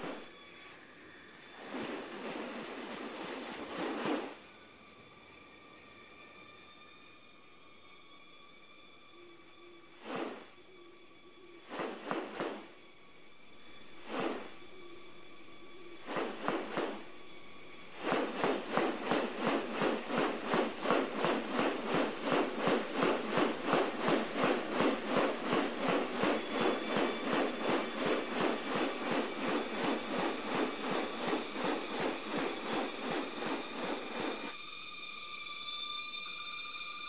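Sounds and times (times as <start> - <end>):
high insect buzz: 0.0 - 37.0.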